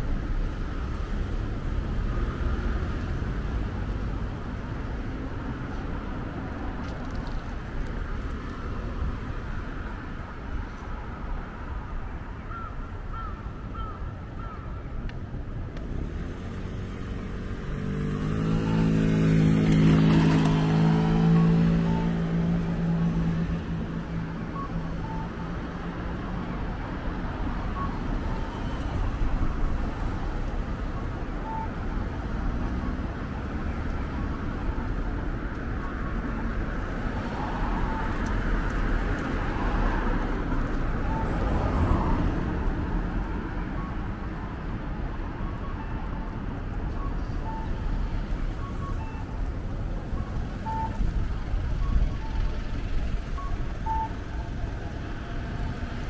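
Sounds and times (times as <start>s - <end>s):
passing cars: 0.0s - 56.0s.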